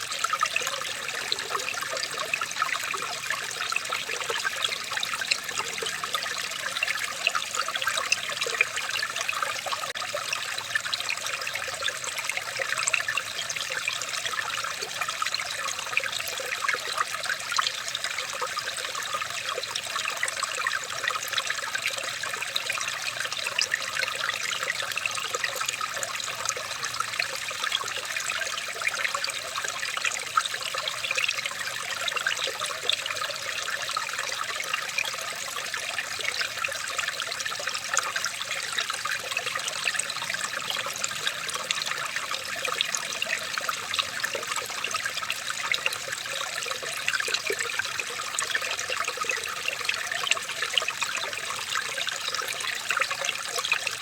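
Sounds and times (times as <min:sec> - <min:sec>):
water trickling and bubbling: 0:00.0 - 0:54.0.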